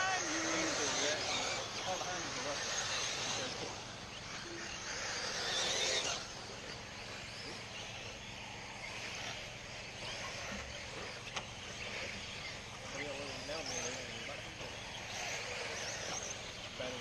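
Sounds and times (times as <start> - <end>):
rc cars rushing over dirt: 0.0 - 17.0.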